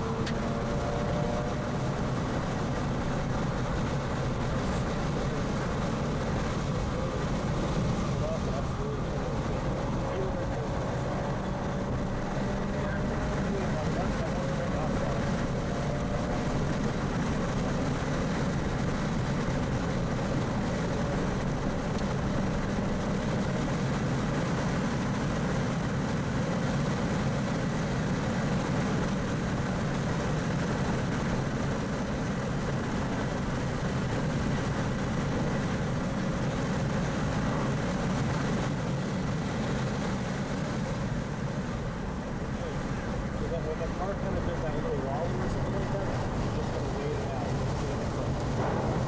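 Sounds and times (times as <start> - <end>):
car engine running at speed: 0.0 - 49.0
road and wind noise: 0.0 - 49.0.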